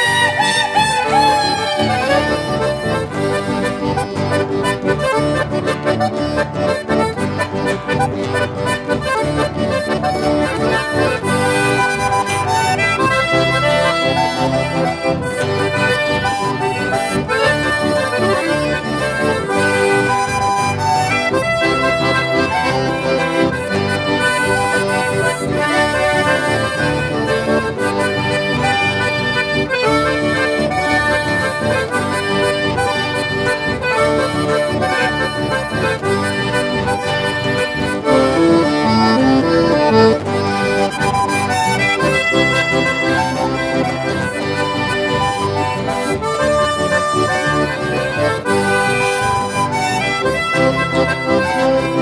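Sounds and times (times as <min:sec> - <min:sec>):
button accordion melody: 0:00.0 - 0:52.0
guitar and bass backing: 0:00.0 - 0:52.0.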